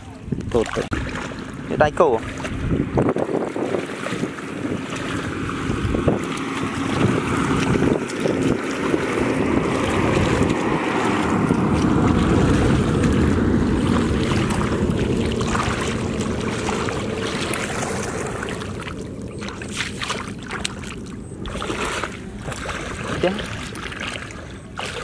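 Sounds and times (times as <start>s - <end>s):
muddy water sloshing: 0.0s - 25.0s
wind buffeting the microphone: 0.0s - 25.0s.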